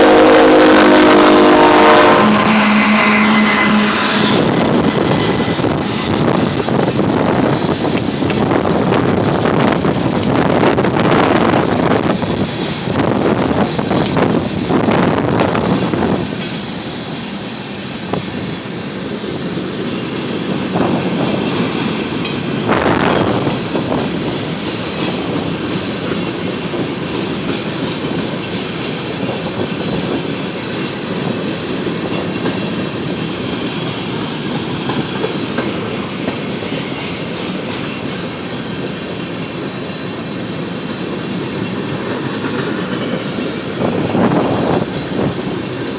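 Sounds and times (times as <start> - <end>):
freight train wheels on rails: 0.0 - 45.9
wind gusts on microphone: 0.0 - 45.9.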